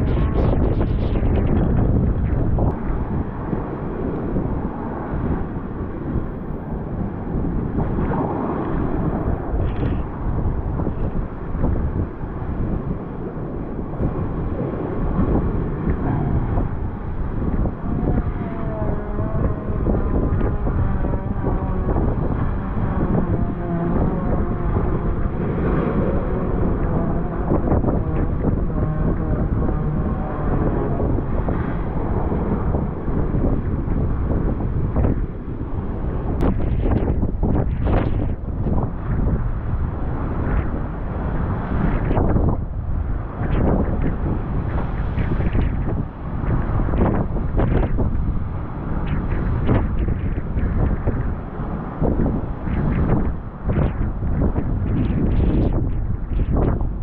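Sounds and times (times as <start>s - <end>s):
rough sea surging: 0.0s - 57.0s
wind buffeting microphone: 0.0s - 57.0s.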